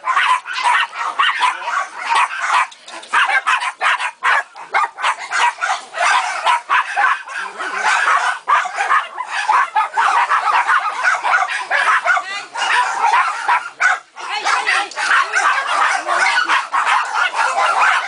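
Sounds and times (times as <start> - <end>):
many dogs barking and yipping: 0.0 - 18.0.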